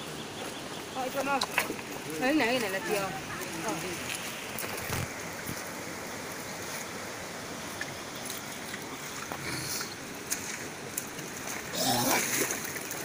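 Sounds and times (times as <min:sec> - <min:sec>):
stream water flowing over rocks: 0:00.0 - 0:13.0.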